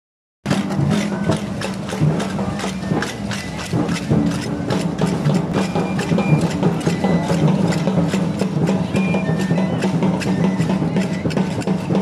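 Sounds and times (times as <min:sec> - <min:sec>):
bass drum beating: 0:00.5 - 0:12.0
wooden sticks clacking: 0:00.5 - 0:12.0.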